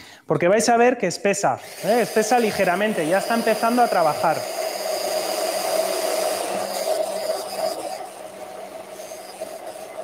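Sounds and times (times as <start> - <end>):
stick blender running in liquid: 1.6 - 10.0.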